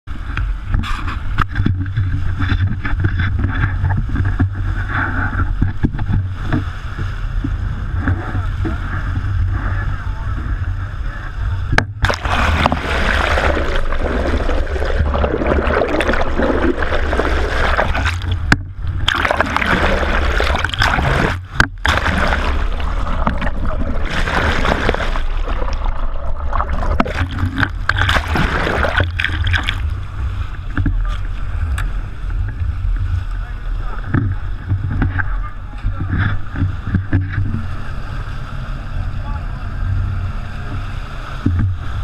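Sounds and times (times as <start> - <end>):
boat engine hum: 0.1 - 42.0
rushing water: 0.1 - 42.0
wind on microphone: 0.1 - 42.0.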